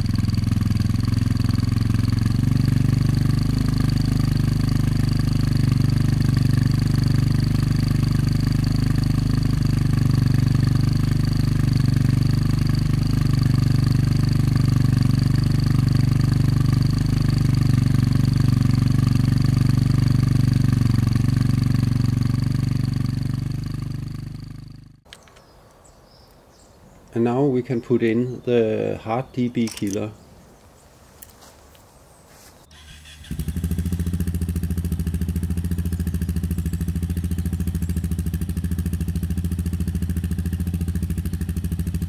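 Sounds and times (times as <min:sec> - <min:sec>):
motorcycle engine exhaust note: 0:00.0 - 0:25.1, 0:32.7 - 0:42.0.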